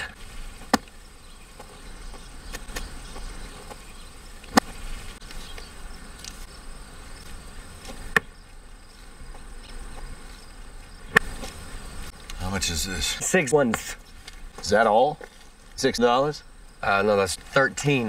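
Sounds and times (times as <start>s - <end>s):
insects buzzing: 0.0s - 18.0s.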